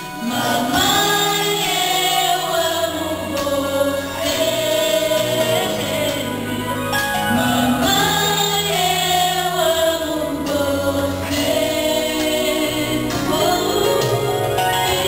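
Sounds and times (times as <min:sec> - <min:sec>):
bass line: 0:00.0 - 0:15.0
group of voices singing: 0:00.0 - 0:15.0
instrumental accompaniment: 0:00.0 - 0:15.0.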